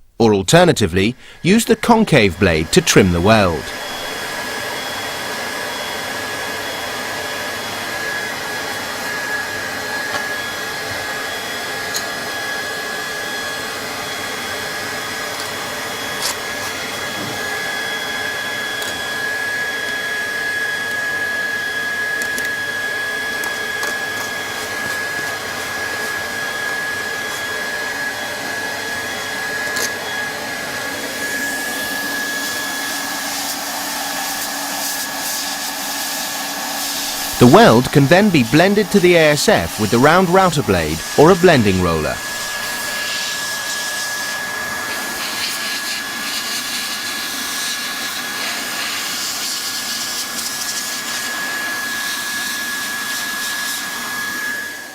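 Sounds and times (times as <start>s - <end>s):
hot-air gun blower whining: 1.2s - 54.9s.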